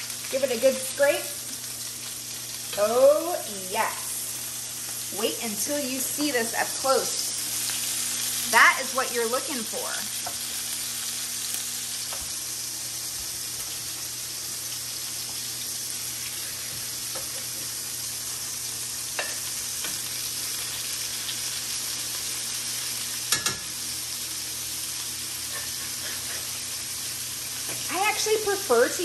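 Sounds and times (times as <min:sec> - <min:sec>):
patties sizzling in skillet: 0:00.0 - 0:29.0.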